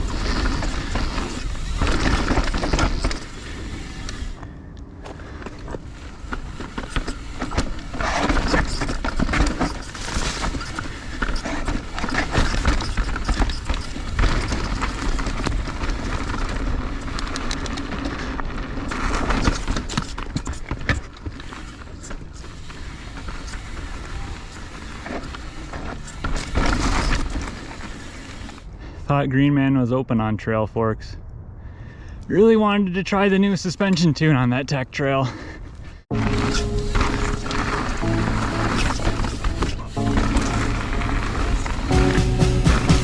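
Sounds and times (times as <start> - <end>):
bike tyres rolling over dirt: 0.0 - 29.0, 35.8 - 42.9.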